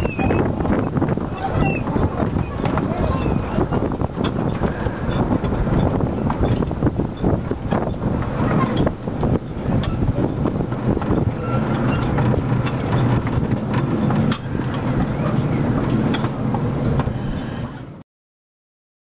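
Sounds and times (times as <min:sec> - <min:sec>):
wheels clicking on track: 0:00.0 - 0:17.8.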